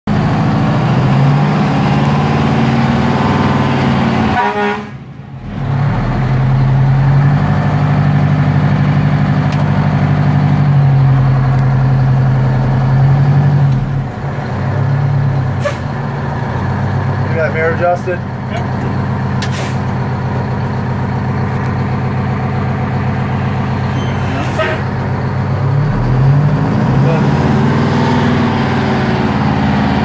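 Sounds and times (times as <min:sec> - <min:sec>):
diesel engine pulling away: 0:00.1 - 0:30.0.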